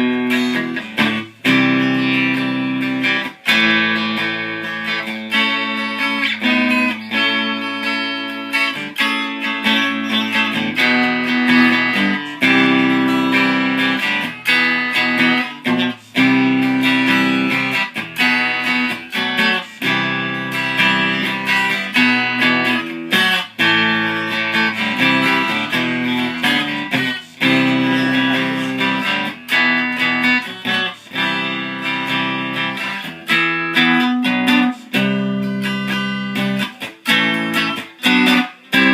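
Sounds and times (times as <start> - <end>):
cigar box guitar chords: 0.0 - 38.9.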